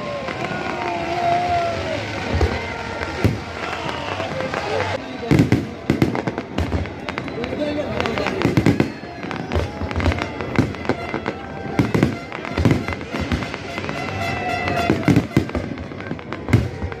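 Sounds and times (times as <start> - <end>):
fireworks banging and crackling: 0.0 - 17.0.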